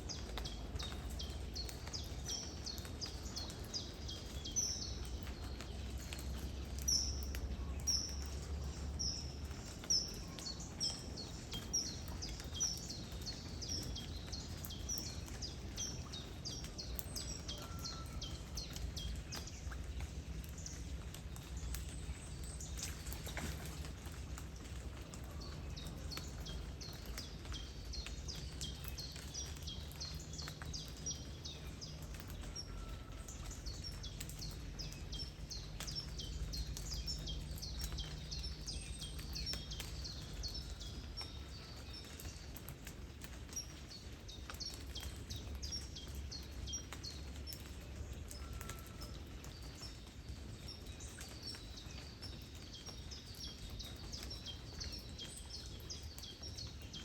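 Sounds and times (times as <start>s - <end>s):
raindrop ticks: 0.0s - 57.0s
rumble of water and wind: 0.0s - 57.0s
small birds chirping: 0.0s - 57.0s.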